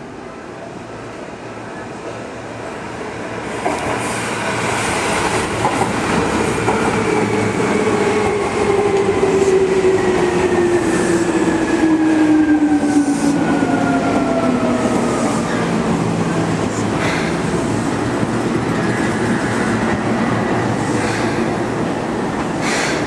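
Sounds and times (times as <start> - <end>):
train wheels rumbling on rails: 2.0 - 23.0.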